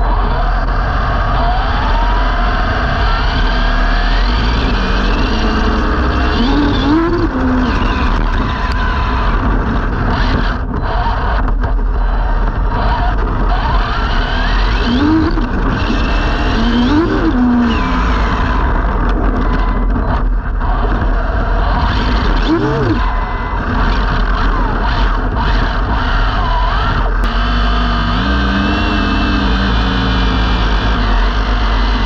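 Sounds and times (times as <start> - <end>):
electric motor whine: 0.0 - 32.0
wind and tyre rush on asphalt: 0.0 - 32.0.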